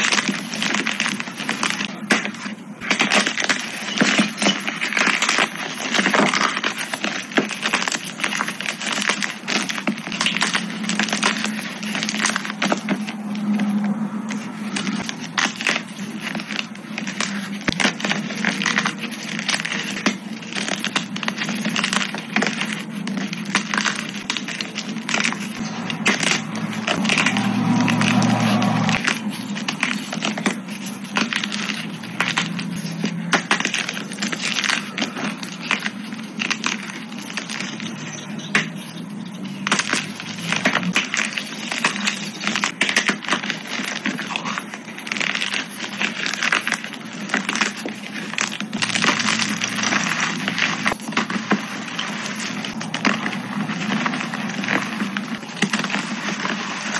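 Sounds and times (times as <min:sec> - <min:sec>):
chalk crunching by hand: 0:00.0 - 0:56.9.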